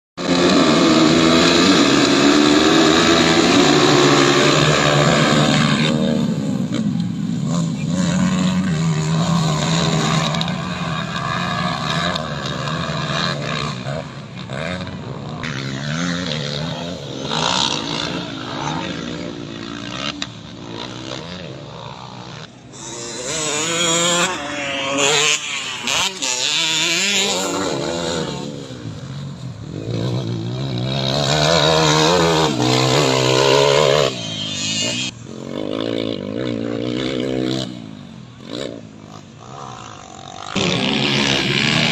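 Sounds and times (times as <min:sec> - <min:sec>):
dirt bike engines revving: 0:00.2 - 0:41.9.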